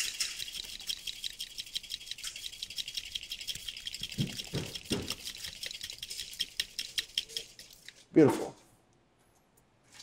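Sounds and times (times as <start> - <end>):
liquid rattling in cocktail shaker: 0.0 - 8.1.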